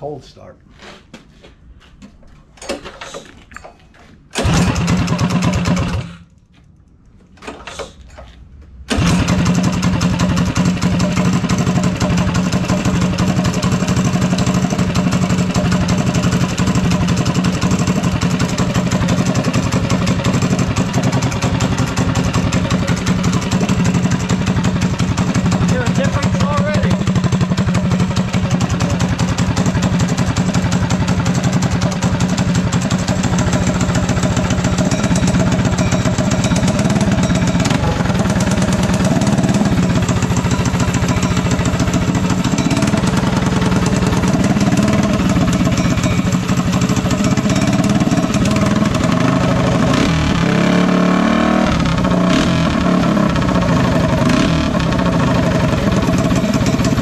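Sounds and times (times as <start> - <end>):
go-kart engine running loud: 4.4 - 6.2, 8.9 - 57.0.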